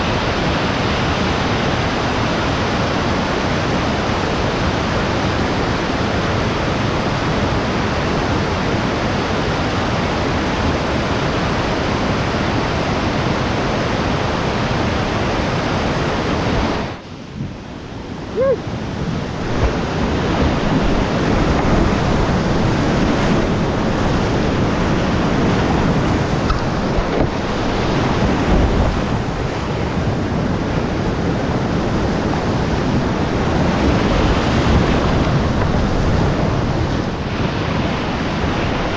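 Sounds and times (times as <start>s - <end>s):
rushing whitewater: 0.0s - 38.9s.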